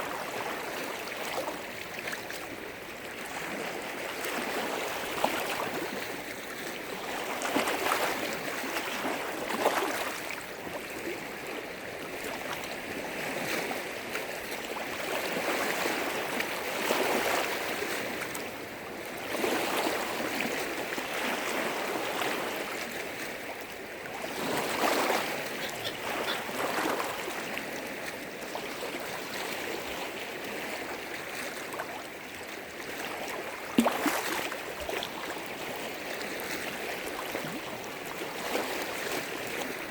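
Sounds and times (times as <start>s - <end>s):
small waves washing against shore: 0.0s - 39.9s.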